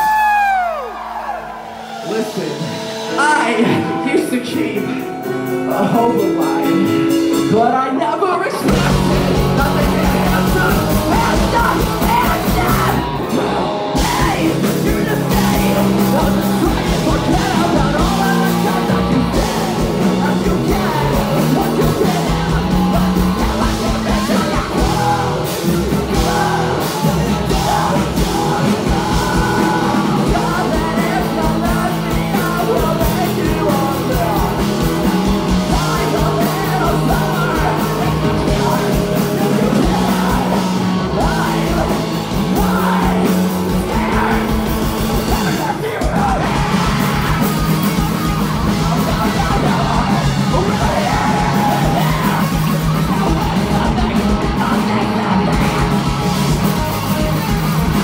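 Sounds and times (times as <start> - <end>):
live rock band playing: 0.0 - 58.0
sung and shouted vocals: 0.0 - 58.0.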